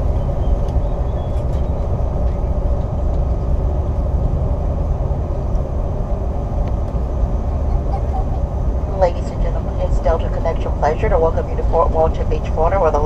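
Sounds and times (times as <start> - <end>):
jet cabin rumble: 0.0 - 13.0
turbofan engines at low power: 0.0 - 13.0.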